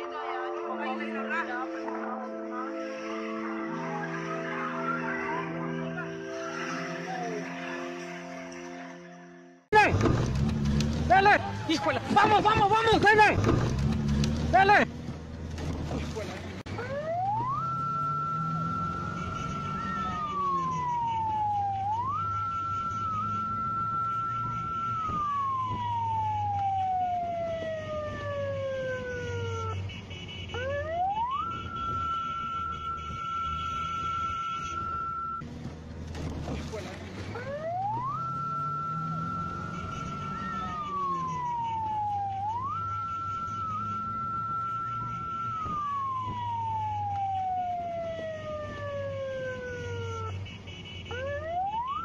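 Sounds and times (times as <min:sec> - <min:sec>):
emergency siren wailing: 0:00.0 - 0:09.9, 0:10.7 - 0:14.9, 0:16.7 - 0:35.6, 0:36.2 - 0:52.0
low vehicle engine hum: 0:01.8 - 0:52.0.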